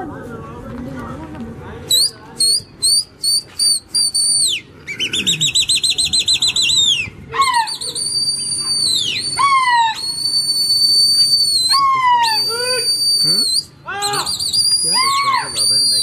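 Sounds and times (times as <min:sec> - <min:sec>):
lower falling whistle: 0:01.9 - 0:16.0
shrill human whistling: 0:01.9 - 0:16.0.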